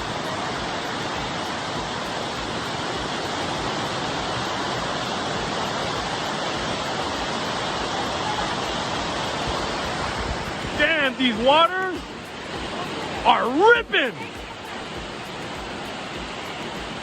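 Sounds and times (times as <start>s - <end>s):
waterfall rushing over rock: 0.0s - 17.0s.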